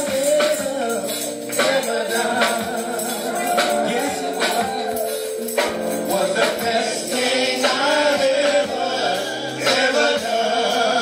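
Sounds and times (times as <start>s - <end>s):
choir backing vocals: 0.0s - 11.0s
gospel music with male singer: 0.0s - 11.0s.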